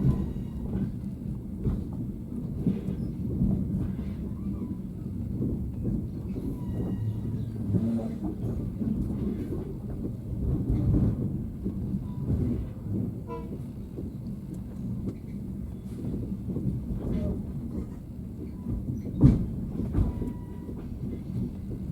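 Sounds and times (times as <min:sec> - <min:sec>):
train rumbling: 0:00.0 - 0:21.9.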